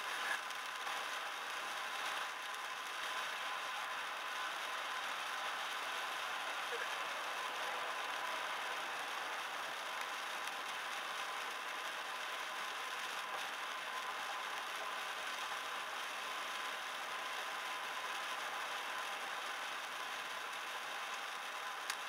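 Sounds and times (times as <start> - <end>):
road and tyre noise on wet road: 0.0 - 22.0.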